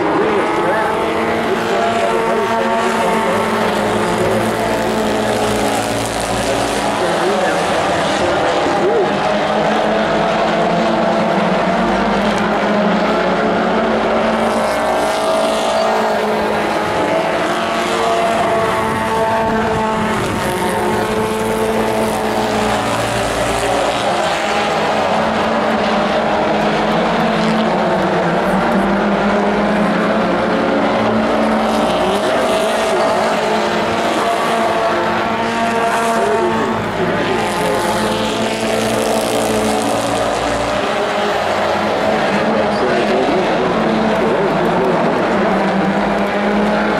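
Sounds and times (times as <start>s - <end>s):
racing truck engines passing: 0.0s - 46.9s.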